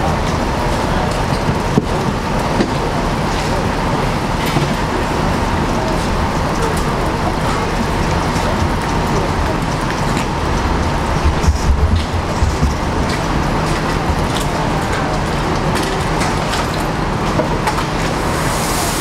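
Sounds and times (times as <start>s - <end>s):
faint constant whine: 0.0s - 19.0s.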